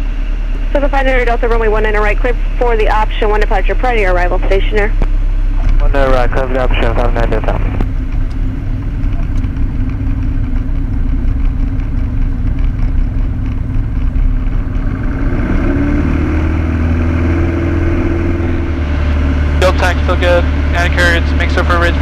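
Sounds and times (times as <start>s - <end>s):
plane engine droning: 0.0s - 22.0s.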